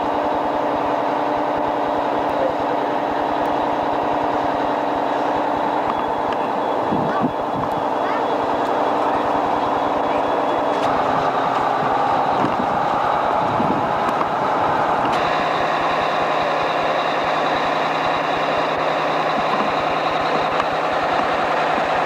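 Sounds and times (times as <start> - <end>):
steady low hum: 0.0 - 21.8
fire engine diesel engine running: 0.0 - 22.0.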